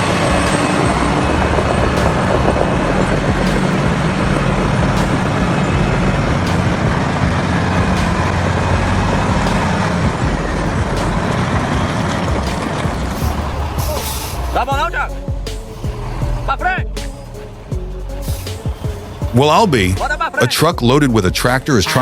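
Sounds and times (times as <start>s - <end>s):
heavy truck engine running: 0.0s - 22.0s
road and traffic noise: 0.0s - 22.0s.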